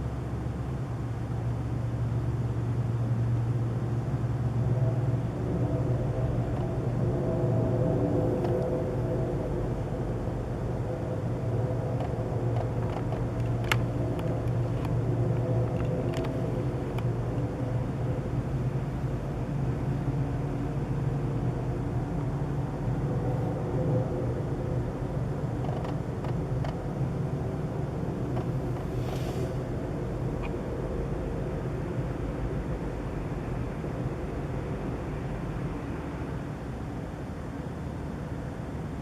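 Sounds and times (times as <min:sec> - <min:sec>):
low humming drone: 0:00.0 - 0:39.0.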